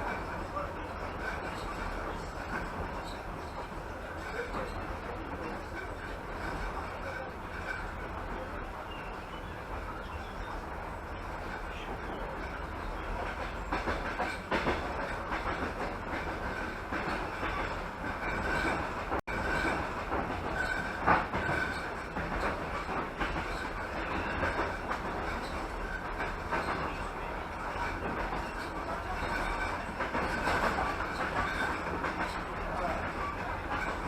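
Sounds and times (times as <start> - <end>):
train low rumble: 0.0 - 34.0.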